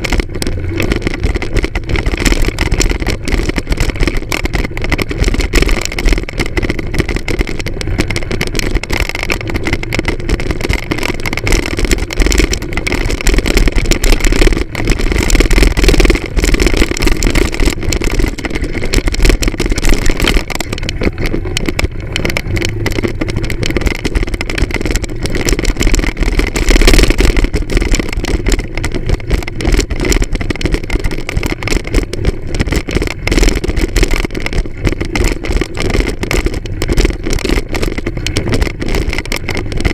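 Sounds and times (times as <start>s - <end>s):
moped engine running: 0.0s - 39.9s
wind on microphone: 0.0s - 39.9s.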